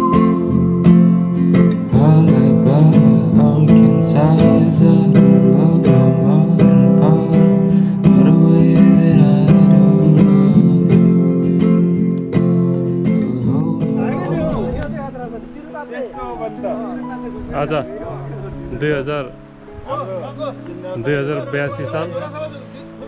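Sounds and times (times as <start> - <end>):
strummed acoustic guitar music: 0.0 - 23.0.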